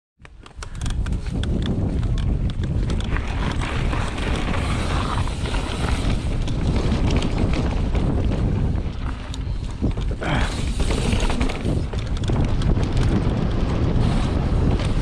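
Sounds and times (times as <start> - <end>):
bike clicks and knocks: 0.2 - 15.0
wind rushing over microphone: 0.3 - 15.0
tyres rumbling on dirt: 2.0 - 15.0.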